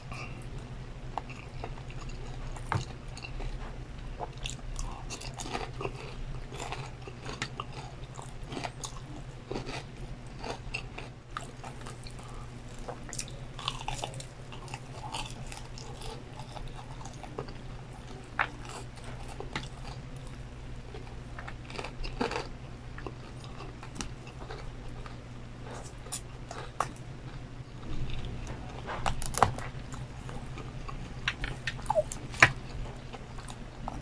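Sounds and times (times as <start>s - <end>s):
crunching fried chicken: 0.0s - 34.0s
steady low hum: 0.0s - 34.0s
wet chewing: 0.1s - 34.0s.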